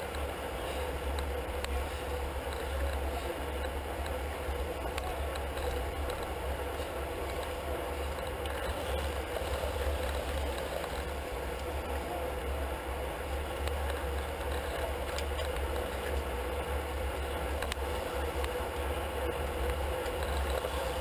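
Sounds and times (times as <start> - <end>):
bicycle tyre and drivetrain noise: 0.0 - 21.0
faint clicks: 2.4 - 11.7, 13.4 - 21.0.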